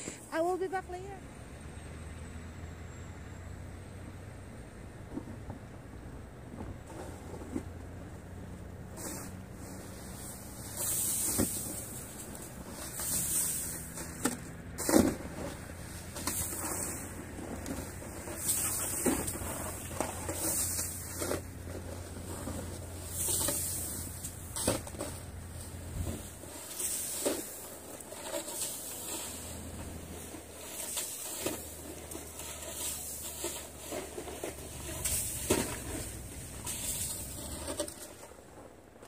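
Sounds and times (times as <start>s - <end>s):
snow shovel scraping roof: 0.0s - 1.2s, 6.8s - 39.0s
snow sliding and landing: 6.8s - 39.0s.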